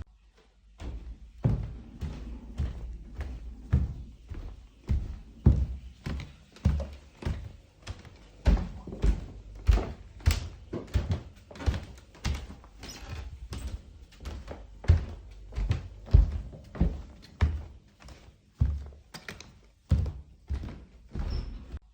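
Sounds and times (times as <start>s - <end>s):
footsteps on hard floor: 0.3s - 21.9s.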